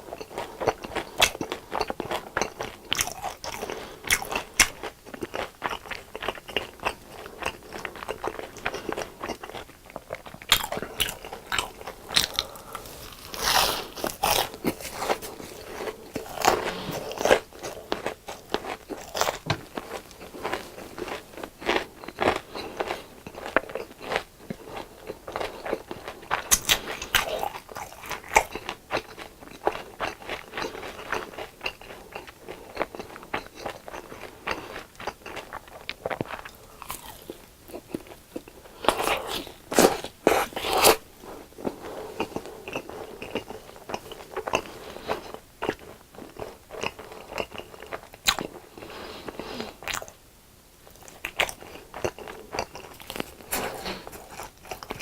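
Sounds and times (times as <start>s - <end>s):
crunchy chewing of fried food: 0.0s - 55.0s.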